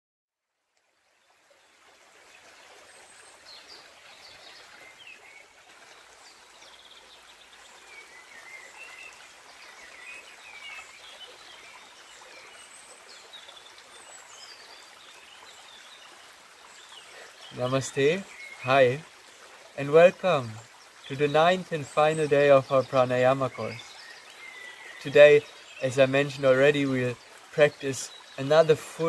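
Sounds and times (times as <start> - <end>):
creek running over rocks: 0.5 - 29.0
small birds chirping: 3.0 - 29.0.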